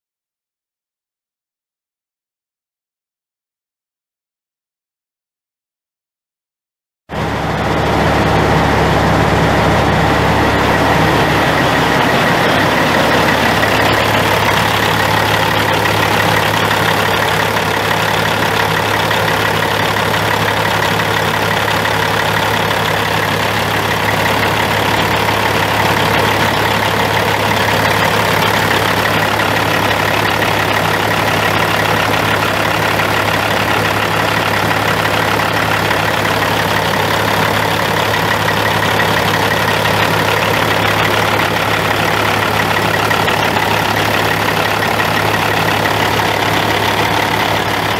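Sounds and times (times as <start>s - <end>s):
diesel truck engine idling: 7.2s - 47.9s.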